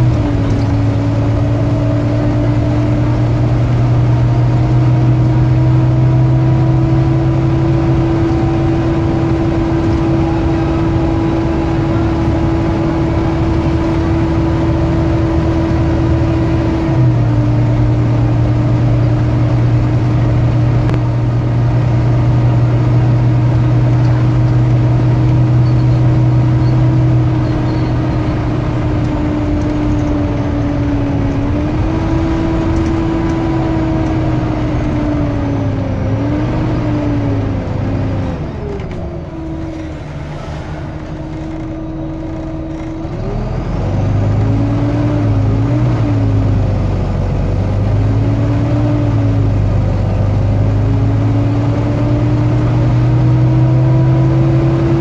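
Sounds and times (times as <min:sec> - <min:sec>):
bus engine whining: 0:00.0 - 0:55.0.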